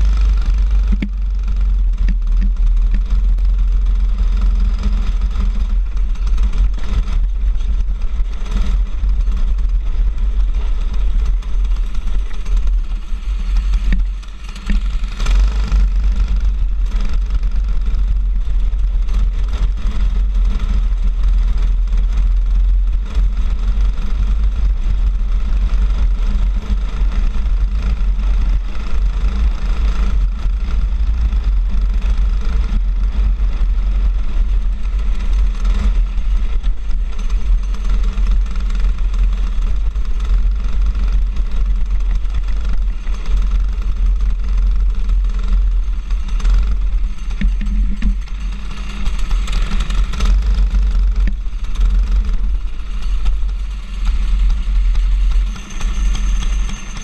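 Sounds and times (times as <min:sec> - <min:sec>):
go-kart engine running hard: 0:00.0 - 0:57.0
wind rumble on microphone: 0:00.0 - 0:57.0.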